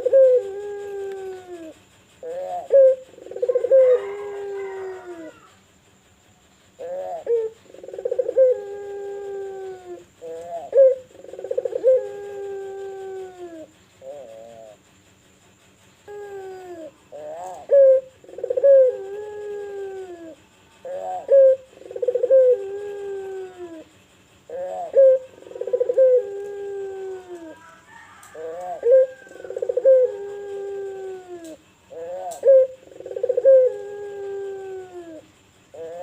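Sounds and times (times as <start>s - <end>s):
dove cooing: 0.0s - 5.6s, 6.7s - 14.9s, 16.0s - 36.0s.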